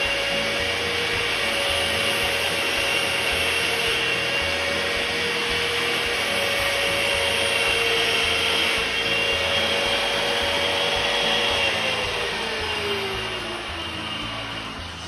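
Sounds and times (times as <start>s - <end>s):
electric grinder whining: 0.0s - 15.0s.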